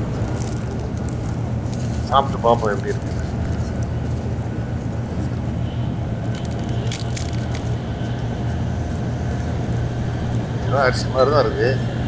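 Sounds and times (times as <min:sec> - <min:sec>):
short crackles: 0:00.0 - 0:10.6
train rumbling at speed: 0:00.0 - 0:12.0.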